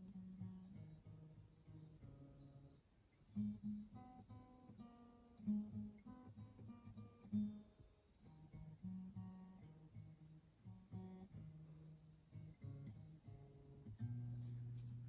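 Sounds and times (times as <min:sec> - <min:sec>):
acoustic guitar played slowly: 0:00.0 - 0:15.0.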